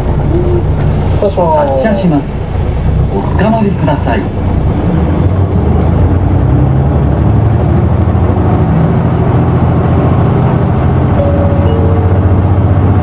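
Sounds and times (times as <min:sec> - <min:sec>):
bus diesel engine revving: 0:00.0 - 0:13.0.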